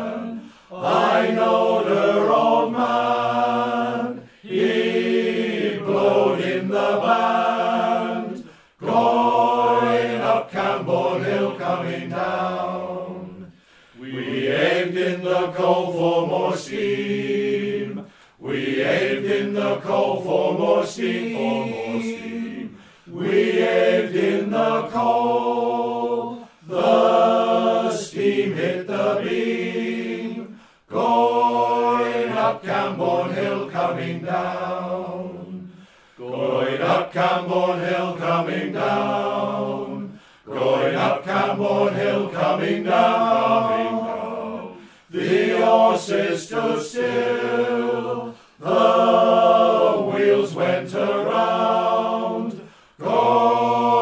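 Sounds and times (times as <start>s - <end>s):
male choir singing in harmony: 0.0s - 54.0s.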